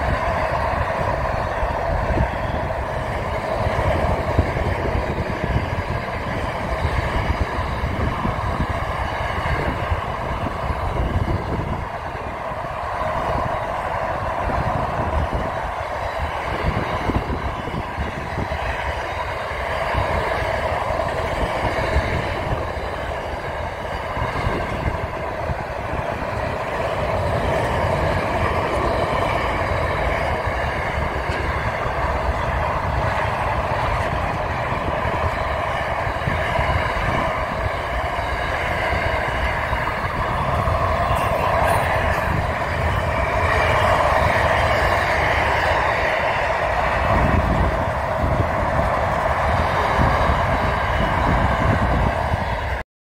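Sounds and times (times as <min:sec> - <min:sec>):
train wheels rumbling on track: 0:00.0 - 0:52.8.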